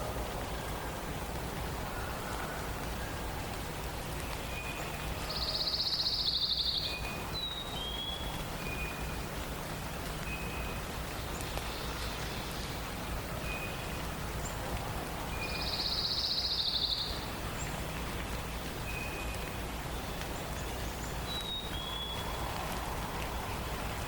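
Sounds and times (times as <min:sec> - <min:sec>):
background hiss: 0:00.0 - 0:24.0
songbirds calling: 0:00.3 - 0:24.0.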